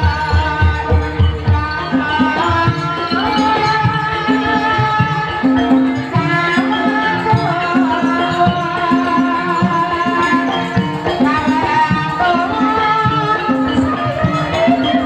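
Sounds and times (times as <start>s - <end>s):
hand drum beats: 0.0s - 15.0s
metallophone notes: 0.0s - 15.0s.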